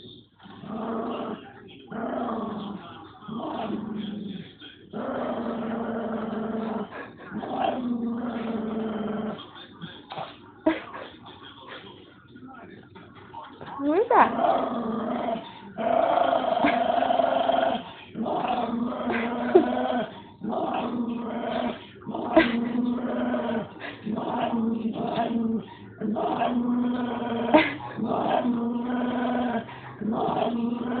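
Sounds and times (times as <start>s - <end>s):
dog growling: 0.4s - 11.0s, 13.8s - 31.0s.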